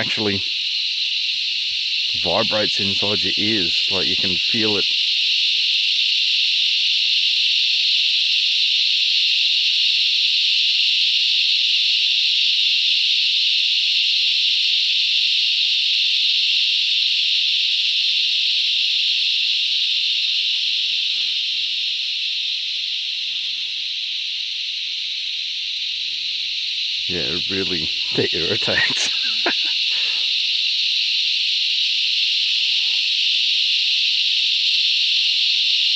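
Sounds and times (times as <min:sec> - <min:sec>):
cicadas shrill drone: 0:00.0 - 0:35.9.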